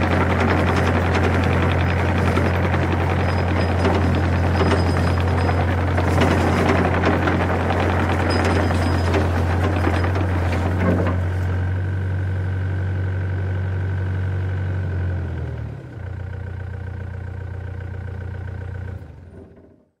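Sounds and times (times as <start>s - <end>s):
excavator diesel engine running: 0.0s - 19.8s.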